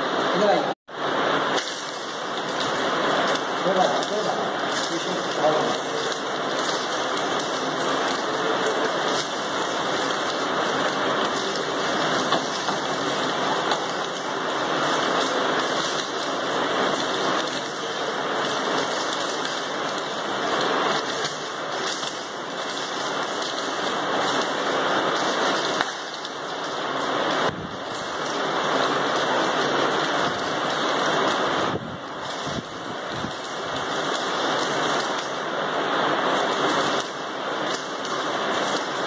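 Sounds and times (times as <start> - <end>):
steady rain-like hiss: 0.0 - 39.0.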